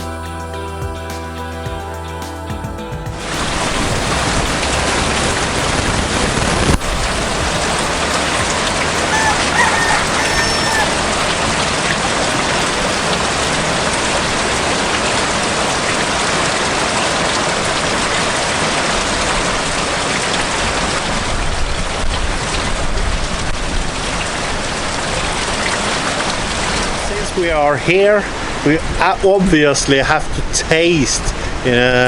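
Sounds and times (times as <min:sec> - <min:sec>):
water rushing and splashing: 0:03.1 - 0:29.2.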